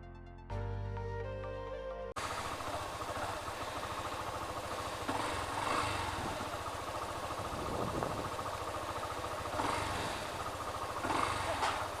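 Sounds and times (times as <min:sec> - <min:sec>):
motorcycle engine idling: 0:02.2 - 0:12.0.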